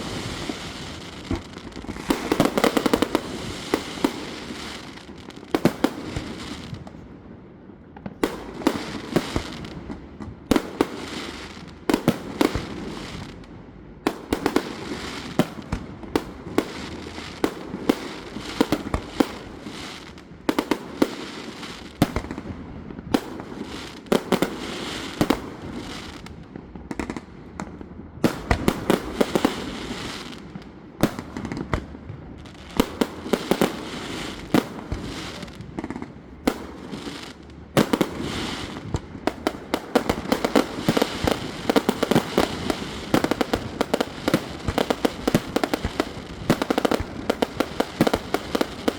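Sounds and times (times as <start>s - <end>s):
fireworks bangs and pops: 0.0s - 7.1s, 7.9s - 13.5s, 14.1s - 48.9s.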